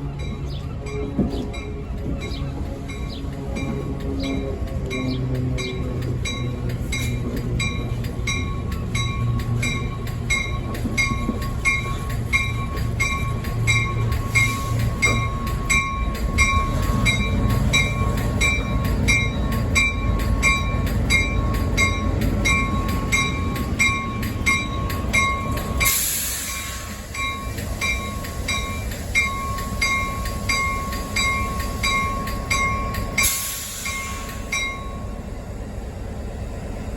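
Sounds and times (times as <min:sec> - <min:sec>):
locomotive rumble: 0:00.0 - 0:36.9.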